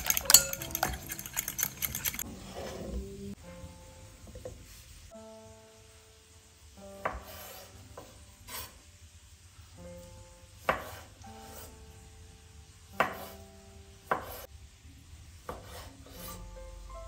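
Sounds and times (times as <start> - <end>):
soft background music: 0.0 - 14.6, 15.5 - 17.0.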